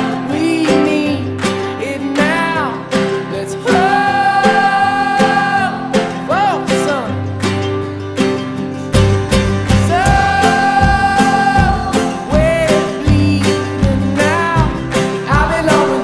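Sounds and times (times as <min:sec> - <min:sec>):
person singing: 0:00.0 - 0:07.4, 0:09.6 - 0:16.0
country song with acoustic guitar: 0:00.0 - 0:16.0.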